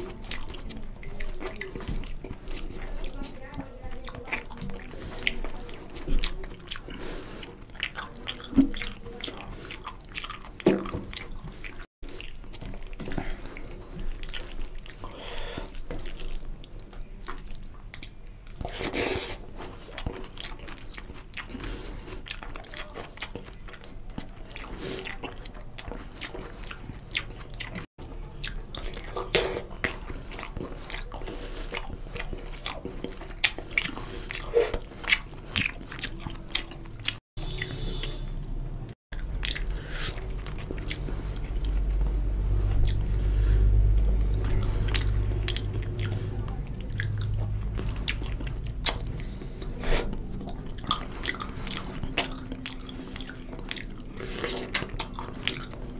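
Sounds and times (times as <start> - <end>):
wet chewing: 0.0 - 38.4, 39.0 - 55.9.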